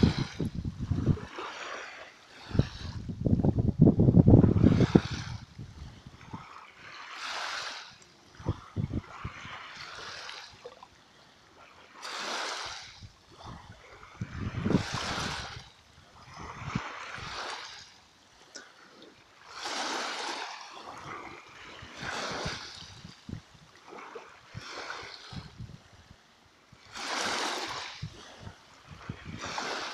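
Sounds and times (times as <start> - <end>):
small waves lapping: 0.0 - 29.9.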